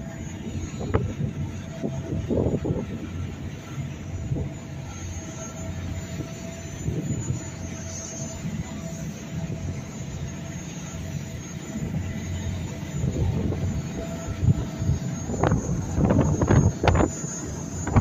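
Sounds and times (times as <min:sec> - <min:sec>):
ferry engine rumble: 0:00.0 - 0:18.0
wind buffeting microphone: 0:00.0 - 0:18.0.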